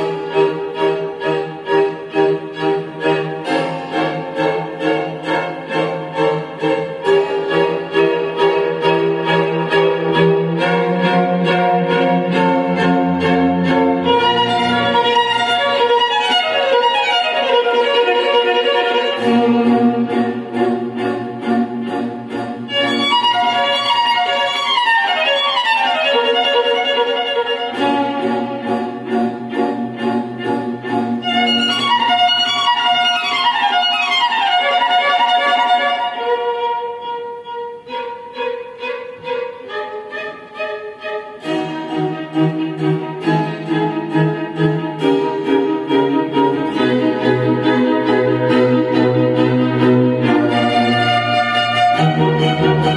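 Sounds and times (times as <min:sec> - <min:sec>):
violin music over loudspeakers: 0:00.0 - 0:52.9.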